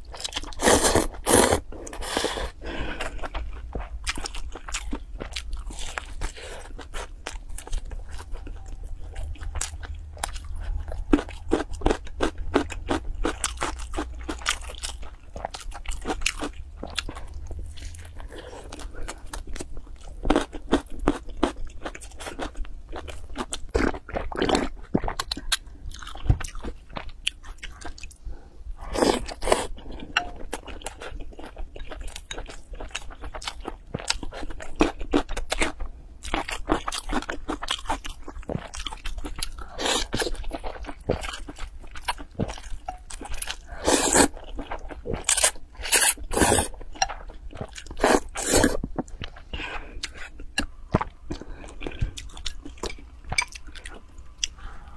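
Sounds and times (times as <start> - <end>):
crunching and chewing: 0.0 - 54.9.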